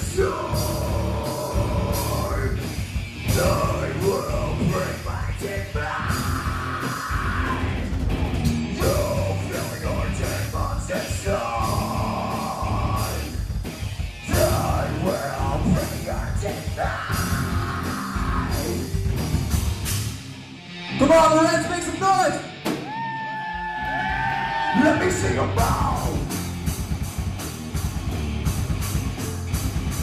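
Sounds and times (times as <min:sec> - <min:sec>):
distorted electric guitars: 0:00.0 - 0:30.0
pounding drum kit: 0:00.0 - 0:30.0.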